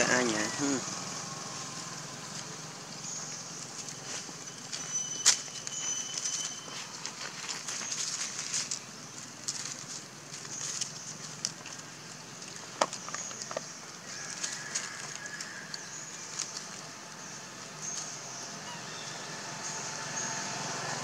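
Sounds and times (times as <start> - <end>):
dry leaves crackling and rustling: 0.0 - 21.0.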